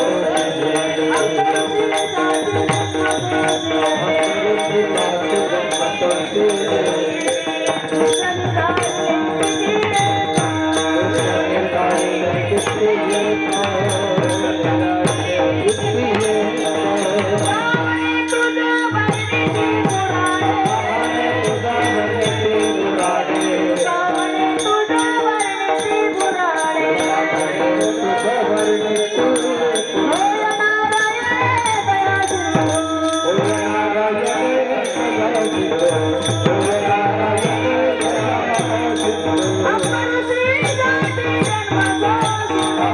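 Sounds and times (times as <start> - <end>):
devotional singing: 0.0 - 42.9
hand cymbals clinking: 0.0 - 42.9.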